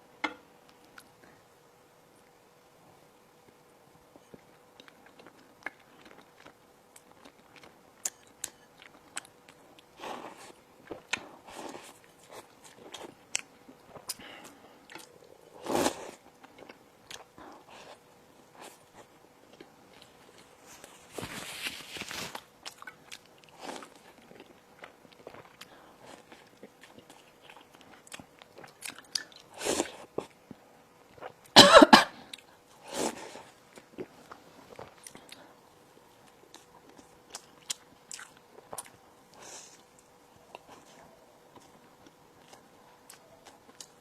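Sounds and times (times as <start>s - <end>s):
person chewing crispy bread: 4.1s - 31.5s, 32.3s - 44.0s.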